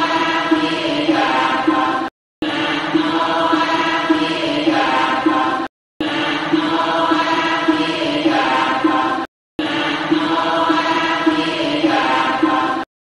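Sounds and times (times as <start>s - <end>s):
droning chant: 0.0s - 12.9s.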